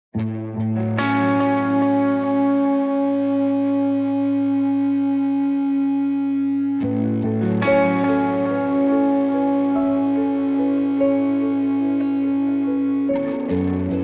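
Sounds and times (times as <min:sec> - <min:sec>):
music of long held chords: 0:00.2 - 0:14.0.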